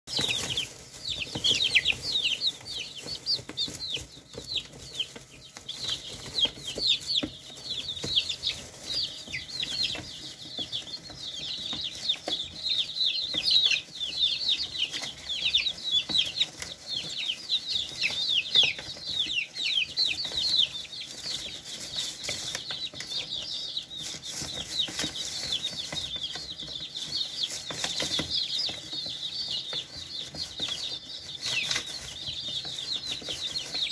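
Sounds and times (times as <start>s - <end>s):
chicks peeping: 0.0s - 33.9s
beaks pecking: 0.1s - 33.9s.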